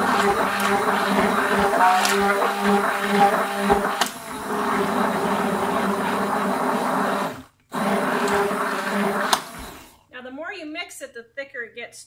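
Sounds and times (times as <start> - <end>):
stick blender whirring: 0.0 - 10.0.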